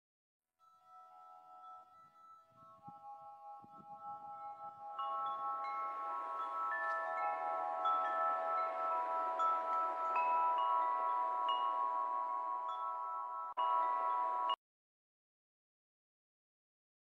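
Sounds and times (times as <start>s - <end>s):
wind chimes ringing: 0.6s - 14.6s.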